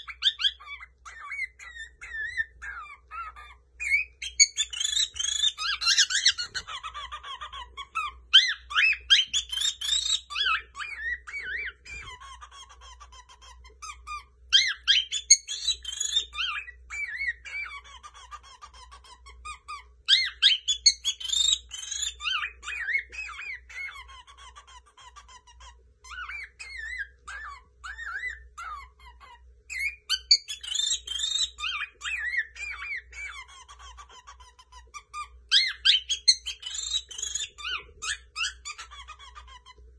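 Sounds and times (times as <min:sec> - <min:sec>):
cockatiel chirps and whistles: 0:00.0 - 0:39.8.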